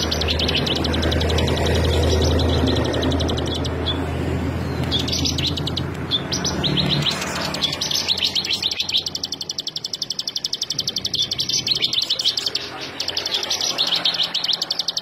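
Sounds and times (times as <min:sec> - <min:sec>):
bird singing high sharp notes: 0:00.0 - 0:15.0.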